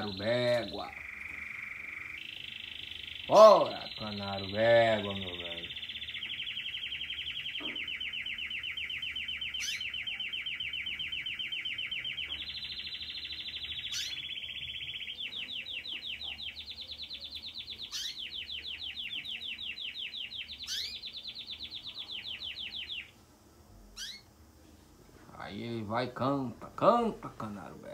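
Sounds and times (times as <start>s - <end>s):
canary singing trills: 0.0s - 23.2s, 23.9s - 24.4s.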